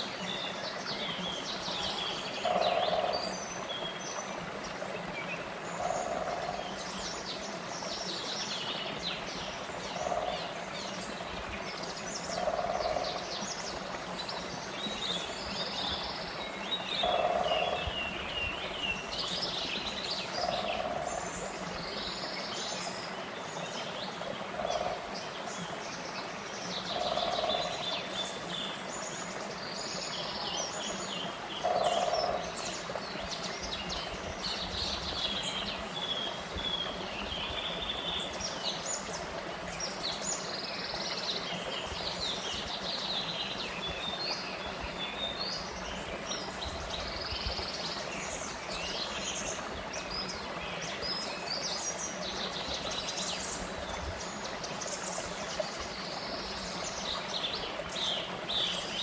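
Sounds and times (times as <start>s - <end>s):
songbirds chirping: 0.0s - 59.0s
stream rushing over rocks: 0.0s - 59.0s.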